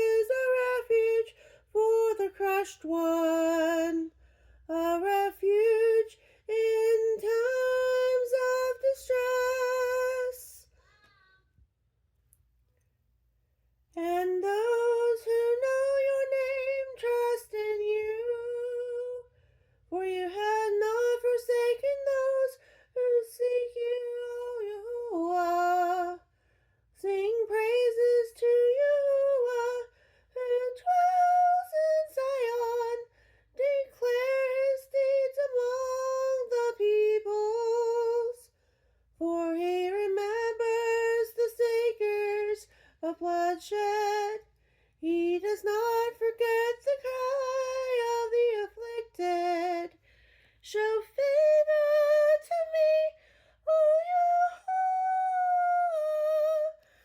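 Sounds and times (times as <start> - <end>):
woman singing unaccompanied: 0.0 - 11.4, 13.9 - 19.3, 19.9 - 26.3, 27.0 - 38.6, 39.2 - 50.0, 50.6 - 56.9.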